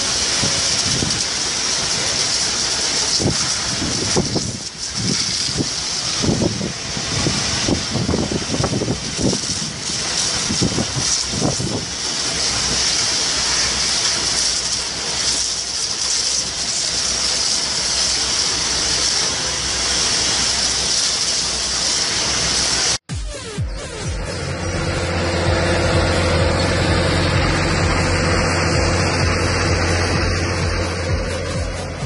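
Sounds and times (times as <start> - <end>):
low rumbles: 0.0 - 17.3, 23.1 - 32.0
fire hose spraying water: 0.0 - 32.0.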